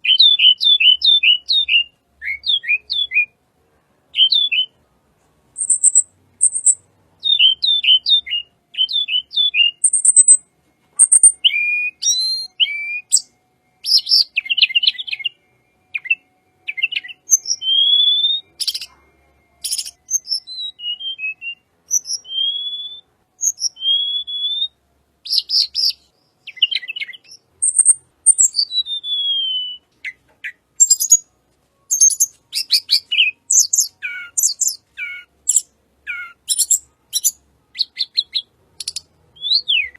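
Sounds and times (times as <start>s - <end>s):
songbird singing: 0.0s - 3.4s, 4.0s - 39.9s.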